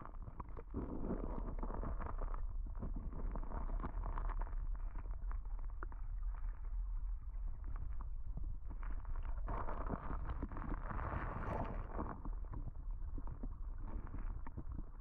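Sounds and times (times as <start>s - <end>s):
muffled underwater river rumble: 0.0s - 15.0s
small underwater ticks and clicks: 0.0s - 15.0s.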